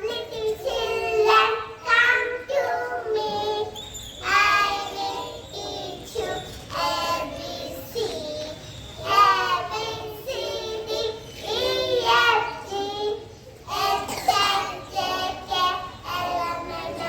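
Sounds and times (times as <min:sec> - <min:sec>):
young children singing: 0:00.0 - 0:17.0.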